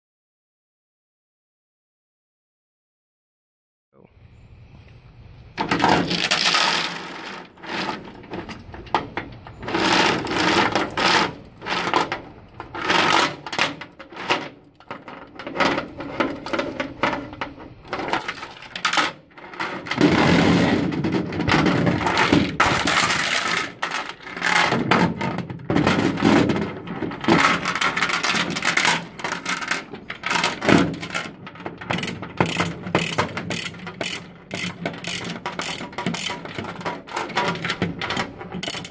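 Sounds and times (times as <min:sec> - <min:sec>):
chain rattling on metal deck: 0:05.6 - 0:38.9.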